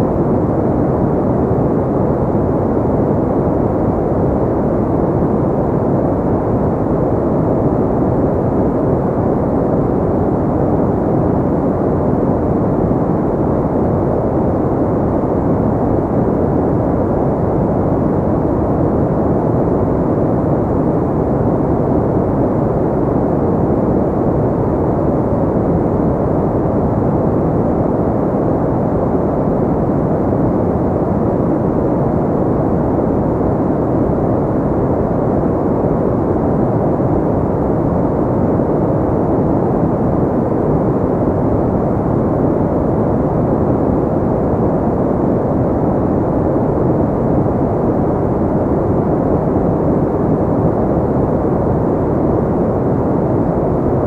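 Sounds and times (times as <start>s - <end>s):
muffled white noise: 0.0s - 54.0s.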